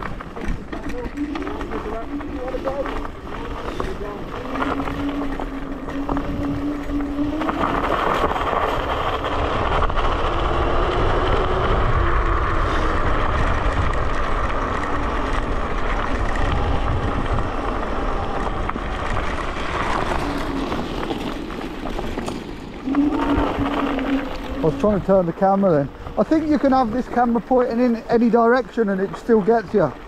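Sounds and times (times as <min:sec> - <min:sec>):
wind rush over microphone: 0:00.0 - 0:28.2
road and tyre noise: 0:00.0 - 0:30.0.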